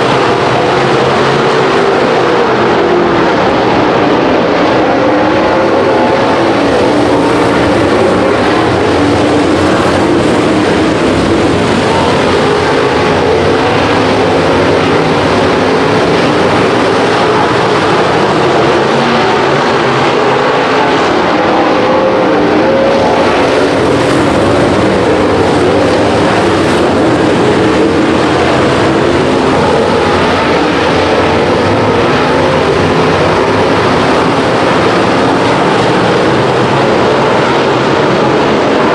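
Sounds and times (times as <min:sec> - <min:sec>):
race car engines at speed: 0:00.0 - 0:38.9.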